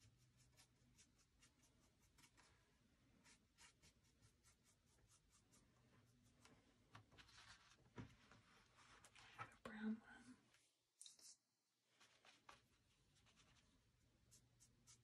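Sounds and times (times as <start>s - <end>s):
paintbrush strokes on canvas: 0.0s - 9.4s, 10.5s - 15.0s.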